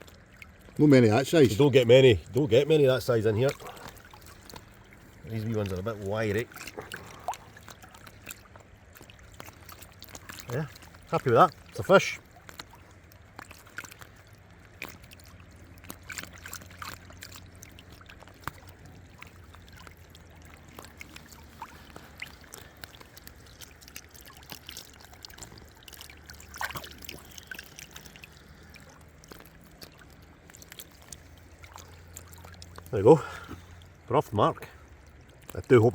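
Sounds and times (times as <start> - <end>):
river water flowing: 0.0 - 35.9
small clicks and splashes: 0.0 - 35.9.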